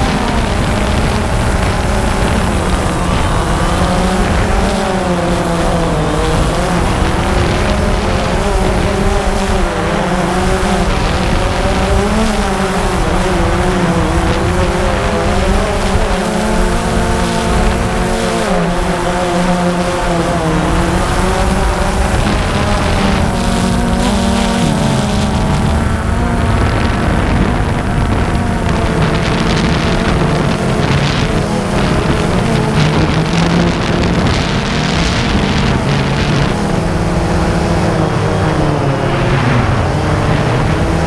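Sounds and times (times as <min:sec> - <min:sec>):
drone propellers humming: 0:00.0 - 0:41.0
wind rumble on microphone: 0:00.0 - 0:41.0.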